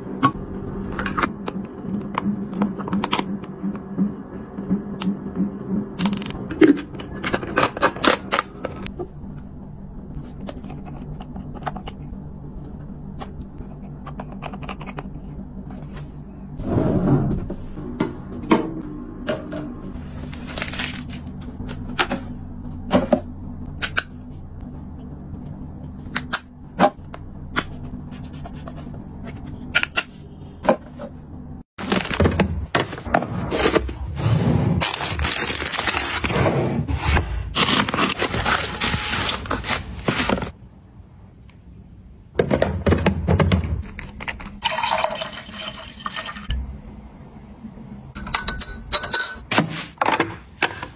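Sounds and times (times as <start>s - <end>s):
low hum: 0.0s - 42.3s.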